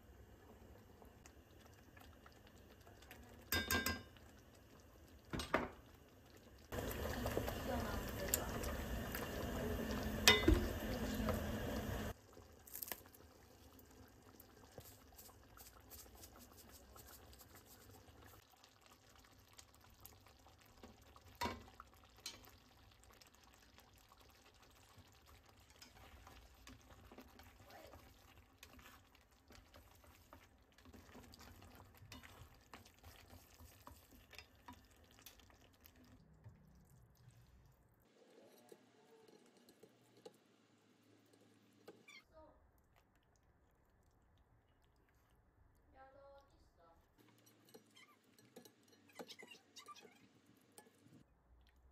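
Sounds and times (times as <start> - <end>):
sauce stirred in a pan: 0.0 - 45.9, 46.6 - 51.9.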